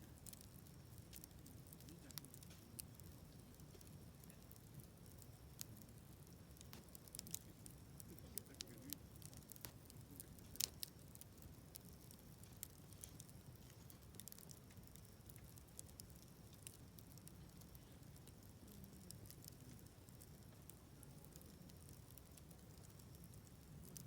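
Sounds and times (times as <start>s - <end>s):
campfire crackling: 0.0s - 24.0s
fire popping: 0.0s - 24.0s.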